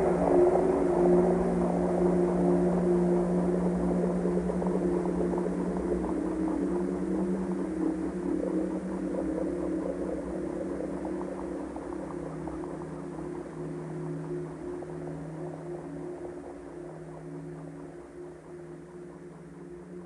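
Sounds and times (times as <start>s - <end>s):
ambient drone music: 0.0s - 20.0s.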